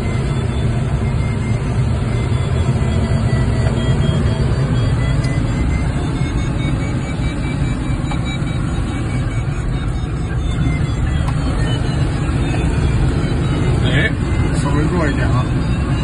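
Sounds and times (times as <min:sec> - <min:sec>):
airflow rushing around cockpit: 0:00.0 - 0:16.0.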